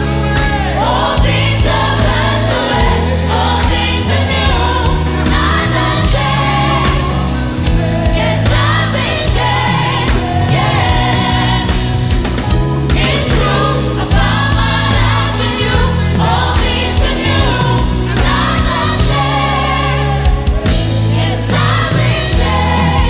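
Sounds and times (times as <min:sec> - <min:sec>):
gospel choir singing: 0:00.0 - 0:23.0
keyboard chords: 0:00.0 - 0:23.0
steady drum beat: 0:00.0 - 0:23.0
sustained bass: 0:00.0 - 0:23.0.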